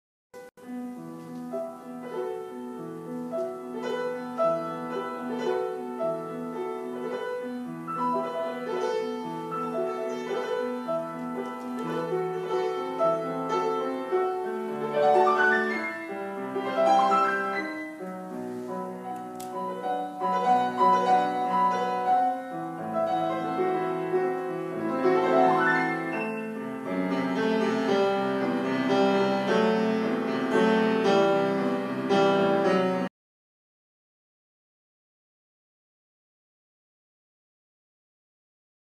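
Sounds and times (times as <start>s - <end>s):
classical piano music: 0.4s - 33.1s.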